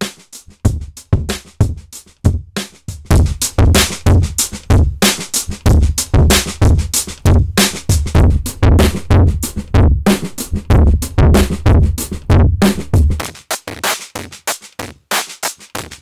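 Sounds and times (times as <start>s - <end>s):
drum loop: 0.0s - 16.0s.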